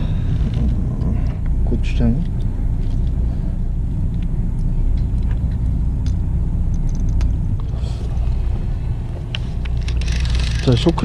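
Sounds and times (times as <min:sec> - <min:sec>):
boat engine low rumble: 0:00.0 - 0:11.0.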